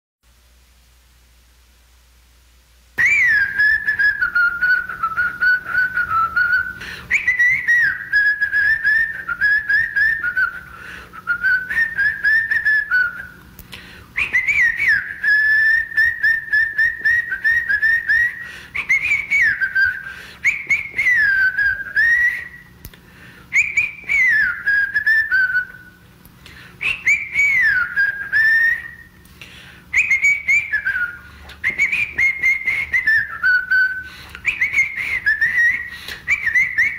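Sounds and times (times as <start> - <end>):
person whistling a tune: 3.0 - 13.4, 14.2 - 22.8, 23.5 - 26.0, 26.8 - 29.2, 29.9 - 36.9.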